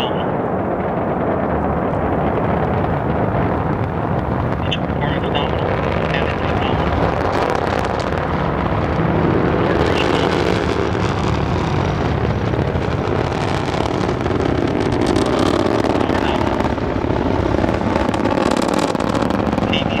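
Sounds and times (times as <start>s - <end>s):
rocket engines rumbling: 0.0s - 20.0s.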